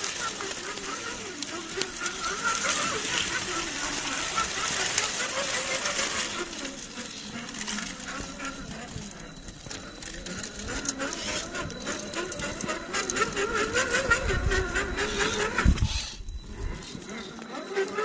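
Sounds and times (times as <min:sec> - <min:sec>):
small clicks and scrapes: 0:00.0 - 0:16.0
electric motor and gear whine: 0:00.0 - 0:18.0.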